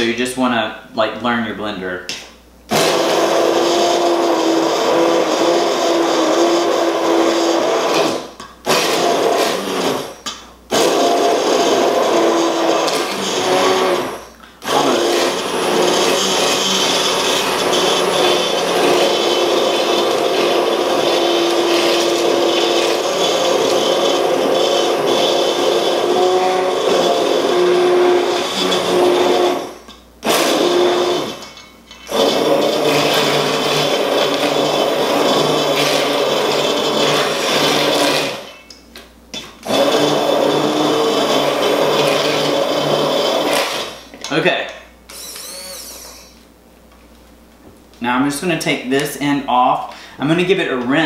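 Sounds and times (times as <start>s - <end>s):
immersion blender running: 2.7s - 31.5s, 32.1s - 38.5s, 39.6s - 44.2s, 45.1s - 46.4s.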